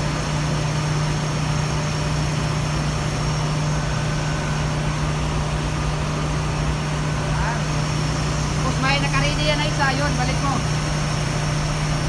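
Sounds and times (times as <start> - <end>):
engine-room machinery running: 0.0 - 12.0.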